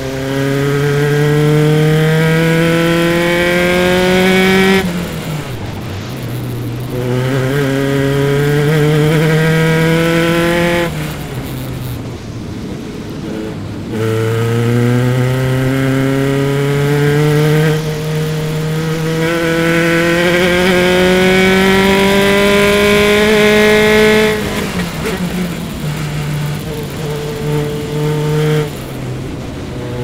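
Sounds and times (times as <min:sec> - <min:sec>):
race car engine at full throttle: 0:00.0 - 0:30.0.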